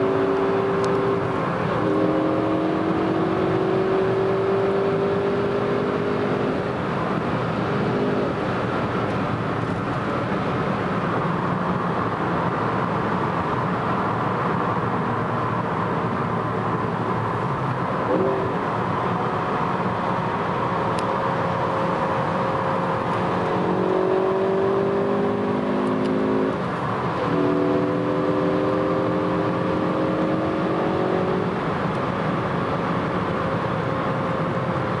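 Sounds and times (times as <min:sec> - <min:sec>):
car engine accelerating: 0:00.0 - 0:35.0
tyre and road noise: 0:00.0 - 0:35.0.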